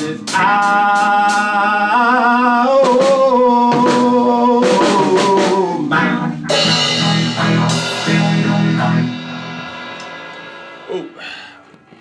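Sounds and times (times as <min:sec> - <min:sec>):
drum kit: 0:00.0 - 0:12.0
electric guitar: 0:00.0 - 0:12.0.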